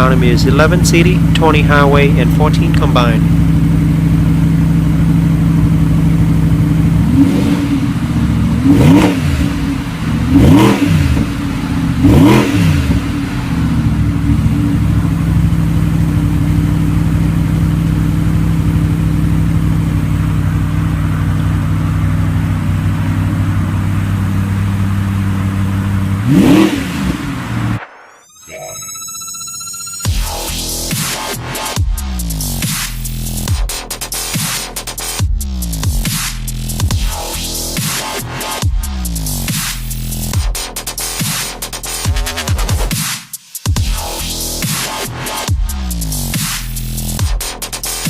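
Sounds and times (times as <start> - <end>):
car engine idling and revving: 0.0 - 28.0, 30.0 - 48.0.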